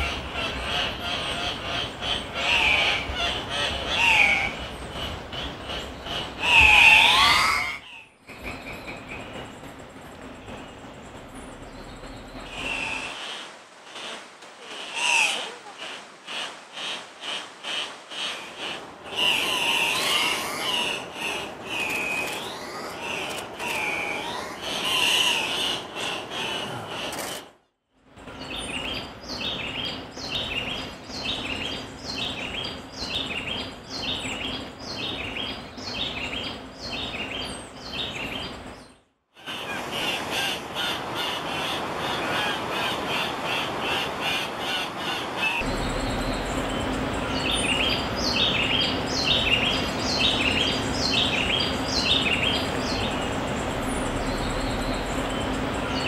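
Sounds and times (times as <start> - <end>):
birds calling: 0.0 - 13.4, 14.8 - 27.5, 28.2 - 56.0.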